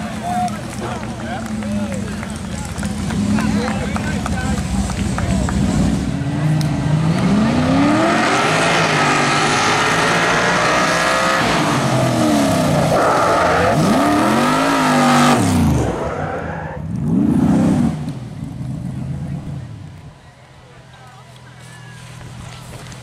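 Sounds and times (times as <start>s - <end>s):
race cart engine revving: 0.0s - 19.8s.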